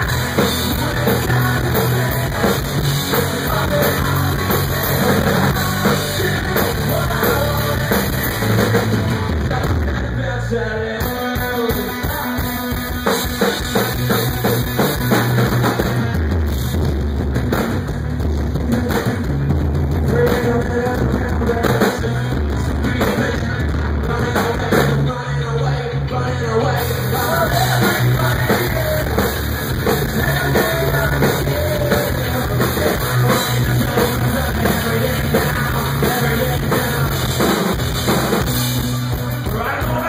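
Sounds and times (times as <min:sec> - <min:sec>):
drum kit: 0:00.0 - 0:10.2, 0:10.9 - 0:25.2, 0:26.6 - 0:40.0
bass guitar: 0:00.0 - 0:40.0
electric guitar: 0:00.0 - 0:40.0.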